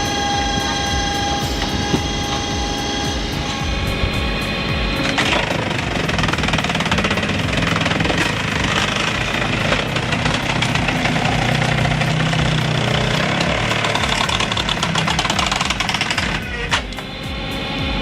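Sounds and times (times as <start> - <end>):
machine engine knocking: 0.0 - 18.0.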